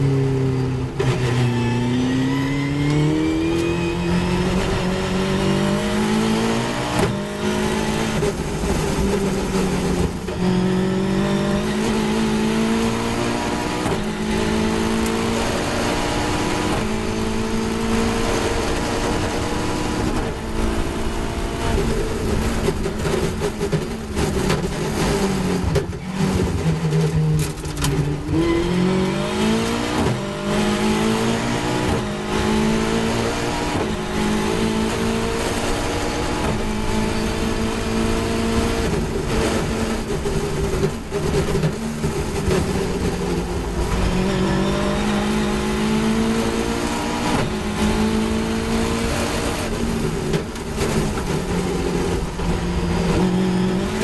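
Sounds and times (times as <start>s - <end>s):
wind and road noise: 0.0s - 54.0s
race car engine shifting gears: 0.1s - 54.0s.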